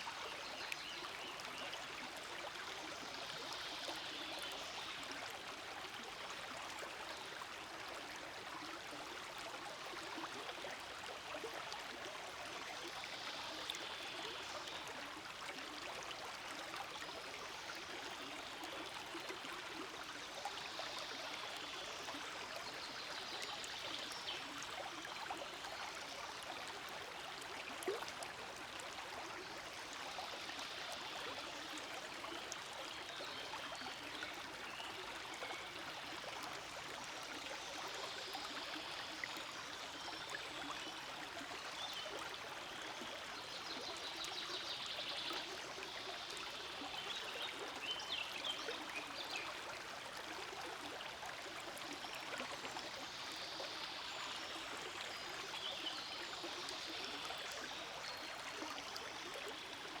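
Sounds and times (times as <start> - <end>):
stream flowing: 0.0 - 60.0.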